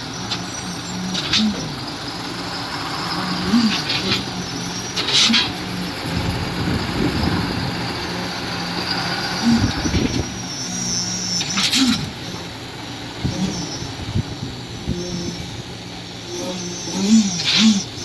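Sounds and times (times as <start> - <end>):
concrete pump running: 0.0 - 18.0.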